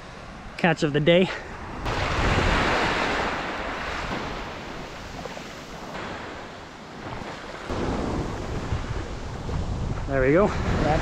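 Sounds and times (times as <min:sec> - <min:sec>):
small waves washing on sand: 0:01.5 - 0:11.0.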